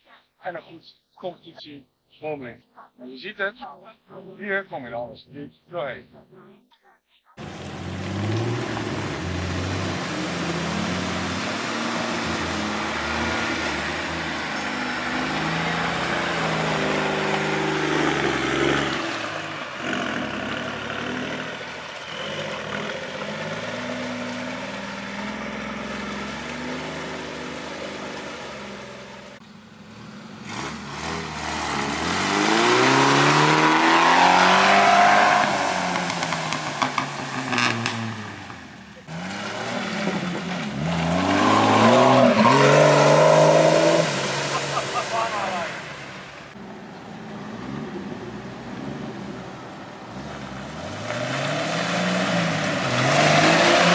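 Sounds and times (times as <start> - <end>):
off-road engine revving: 7.4 - 53.9.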